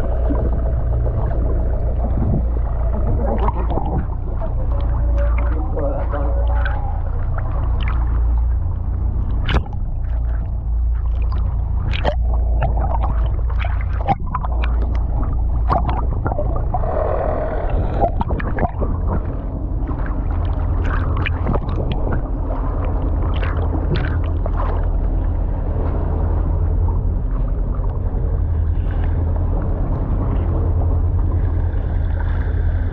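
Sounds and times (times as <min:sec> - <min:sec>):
underwater clicks and gurgles: 0:00.0 - 0:32.9
underwater low rumble: 0:00.0 - 0:32.9.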